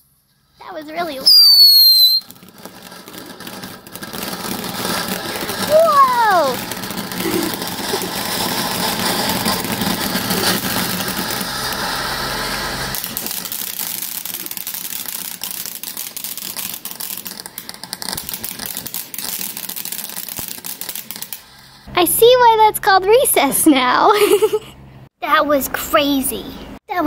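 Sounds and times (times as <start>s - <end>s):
firework crackling and popping: 0.0s - 22.5s
firework fountain hissing: 0.0s - 22.7s, 23.6s - 24.7s.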